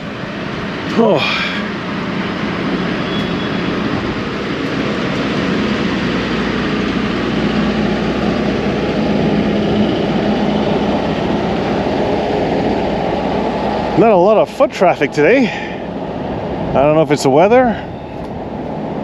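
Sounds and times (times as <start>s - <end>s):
city street traffic: 0.0s - 19.0s
engine humming: 0.0s - 19.0s.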